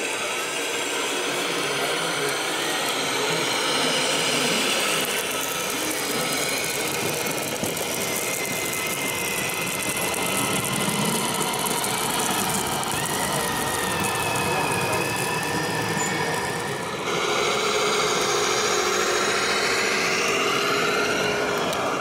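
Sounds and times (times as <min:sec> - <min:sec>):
model truck mechanical running: 0:00.0 - 0:22.0
thin high whine: 0:00.0 - 0:22.0.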